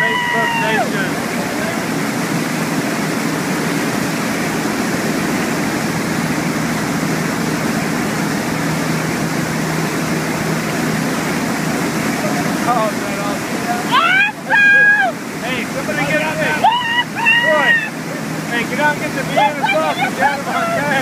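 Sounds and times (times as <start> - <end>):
boat motor drone: 0.0 - 21.0
water rushing along hull: 0.0 - 21.0.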